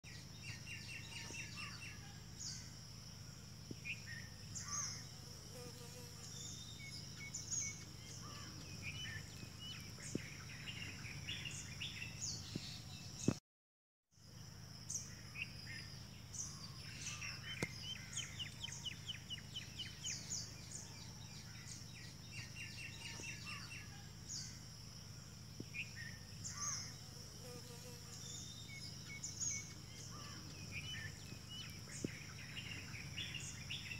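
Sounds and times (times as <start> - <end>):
small birds chirping: 0.0 - 2.9, 3.6 - 13.4, 14.8 - 33.9
high insect buzz: 0.1 - 13.4, 14.2 - 33.9.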